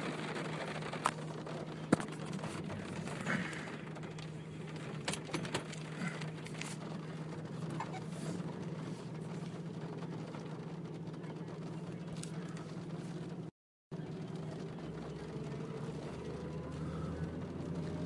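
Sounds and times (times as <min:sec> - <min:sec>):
car cabin engine and tyre hum: 0:00.0 - 0:18.0.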